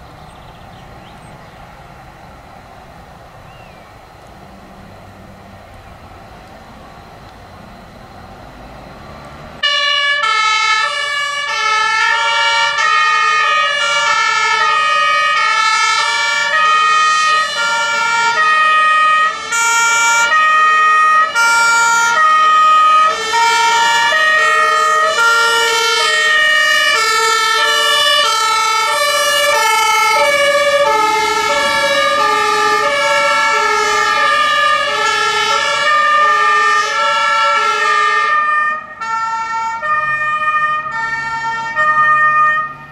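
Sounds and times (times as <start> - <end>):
two-tone fire engine sirens: 4.4 - 42.9.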